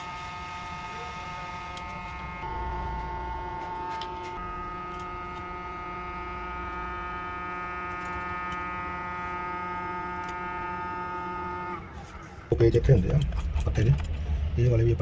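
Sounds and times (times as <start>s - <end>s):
hot-air gun electrical hum: 0.0s - 15.0s.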